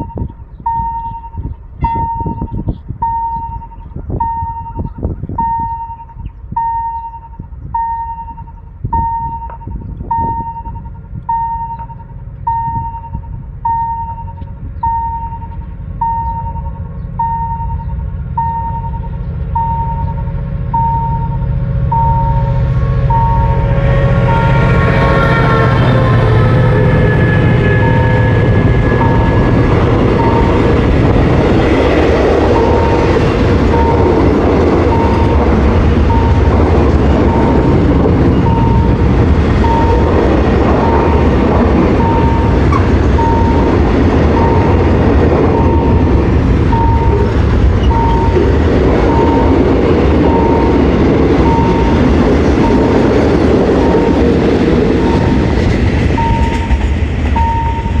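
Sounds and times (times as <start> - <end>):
freight train rumble and clatter: 0.0 - 58.0
level-crossing warning bell: 0.0 - 58.0.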